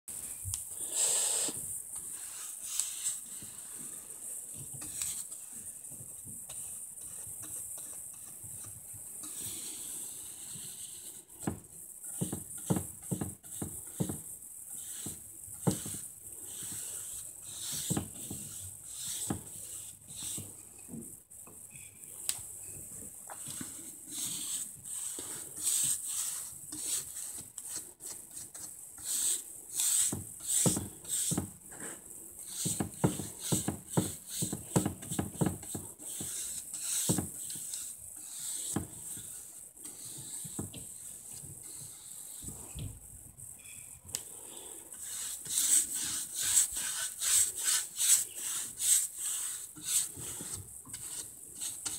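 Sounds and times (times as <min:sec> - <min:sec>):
steady high hiss: 0:00.1 - 0:51.9
paintbrush strokes on wood: 0:00.2 - 0:51.9.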